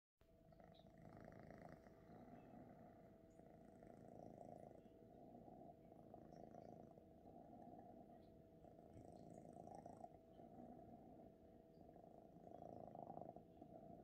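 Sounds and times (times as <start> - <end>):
kitten purring faintly: 0.3 - 14.0.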